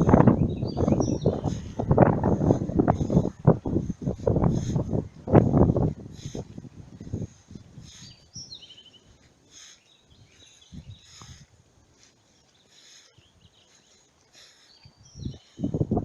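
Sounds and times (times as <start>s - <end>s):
birds calling: 0.0s - 6.5s, 7.2s - 15.8s.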